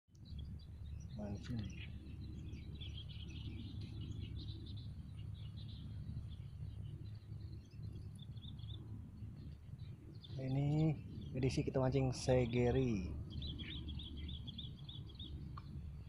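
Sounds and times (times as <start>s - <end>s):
small birds chirping: 0.1s - 16.0s
low outdoor rumble: 0.2s - 16.0s.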